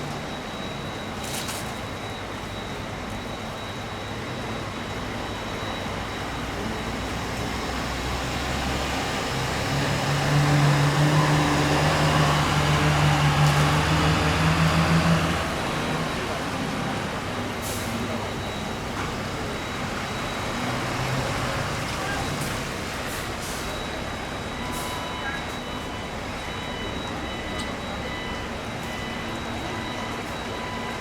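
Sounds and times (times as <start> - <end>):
fire truck engine running: 0.0 - 31.0.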